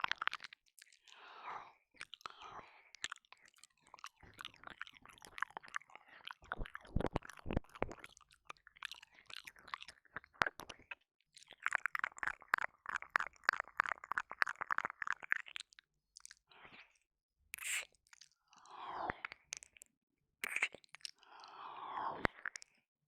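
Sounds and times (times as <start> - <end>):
wet mouth clicks and licks: 0.0 - 1.2, 2.0 - 17.0, 17.6 - 18.4, 19.1 - 21.4, 22.2 - 22.8.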